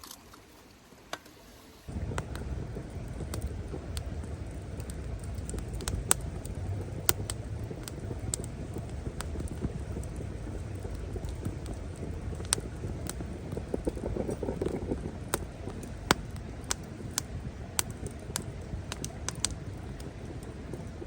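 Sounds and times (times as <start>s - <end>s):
wood fire crackling: 1.3s - 21.0s.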